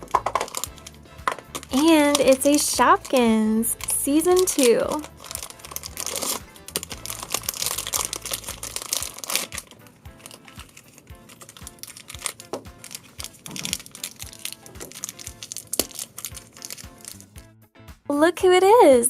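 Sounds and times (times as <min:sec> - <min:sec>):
plastic packet crinkling: 0:00.0 - 0:17.3
light background music: 0:00.0 - 0:19.0.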